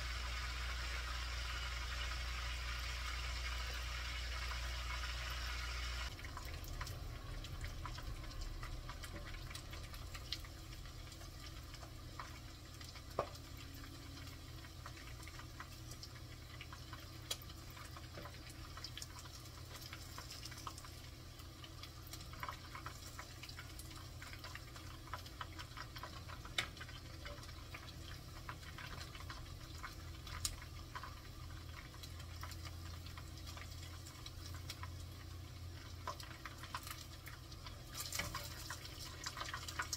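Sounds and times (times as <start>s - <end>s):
chicken deep-frying in oil: 0.0s - 39.9s.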